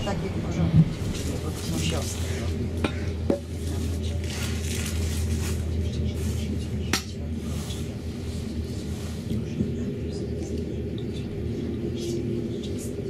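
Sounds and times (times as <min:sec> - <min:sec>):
train carriage hum and rumble: 0:00.0 - 0:13.0.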